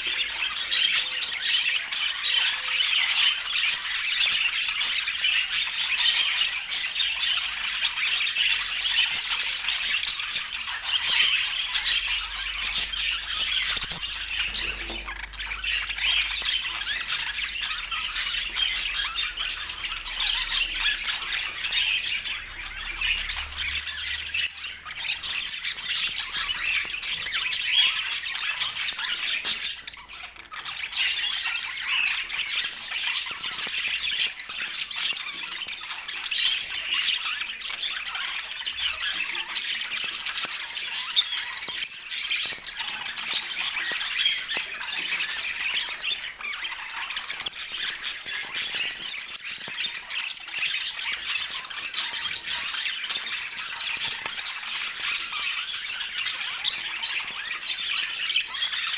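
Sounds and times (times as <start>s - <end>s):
budgerigars chattering: 0.0s - 58.9s.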